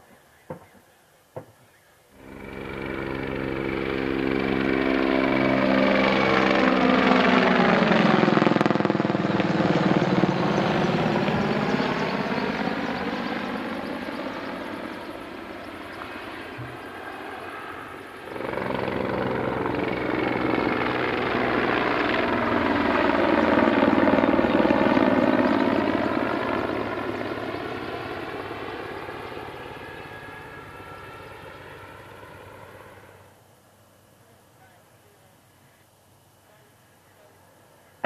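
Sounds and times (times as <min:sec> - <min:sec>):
helicopter flying past: 0:02.1 - 0:33.4.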